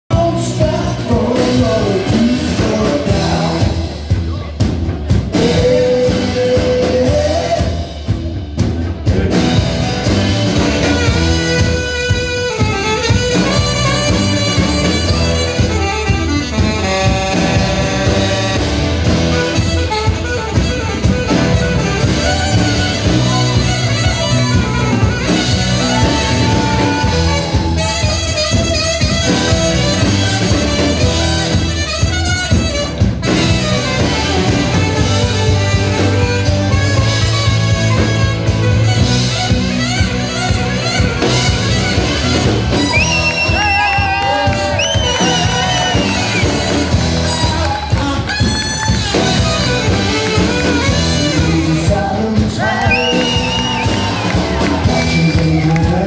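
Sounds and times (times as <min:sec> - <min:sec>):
live rock band playing: 0:00.1 - 0:56.0
saxophone solo: 0:09.3 - 0:56.0.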